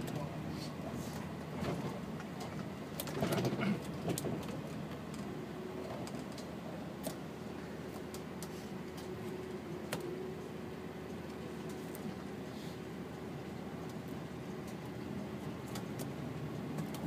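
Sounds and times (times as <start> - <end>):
bus running noise: 0.0 - 17.0
faint steady hum: 0.0 - 17.0.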